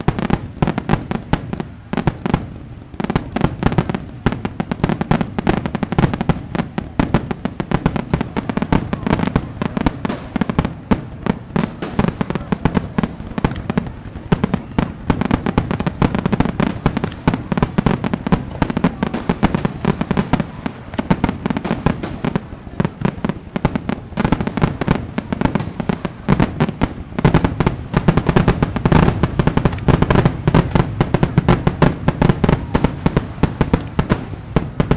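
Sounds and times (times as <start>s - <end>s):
fireworks bangs and crackling pops: 0.0s - 34.9s.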